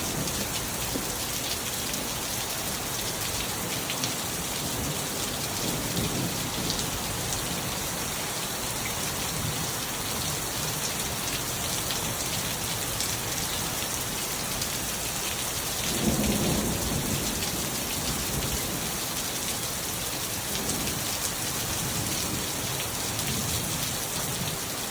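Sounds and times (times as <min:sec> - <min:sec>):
heavy rain: 0:00.0 - 0:24.9.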